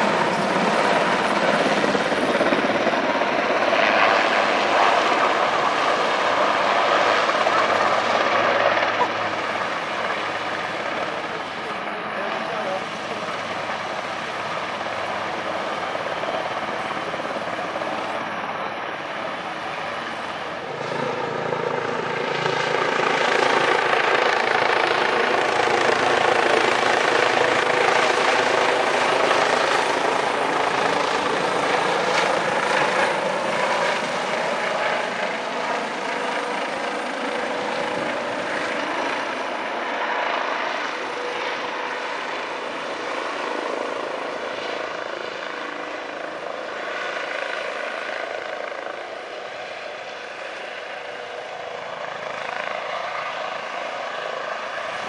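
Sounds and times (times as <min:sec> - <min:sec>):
helicopter flying close by: 0:00.0 - 0:55.0
helicopter hovering: 0:00.0 - 0:55.0.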